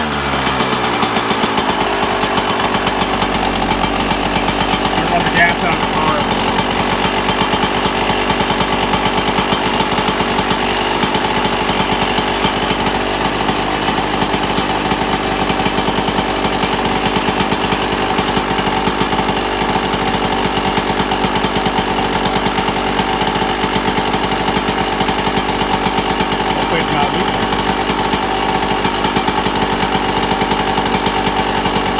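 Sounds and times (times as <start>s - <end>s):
two-stroke engine running with clatter: 0.0s - 31.9s.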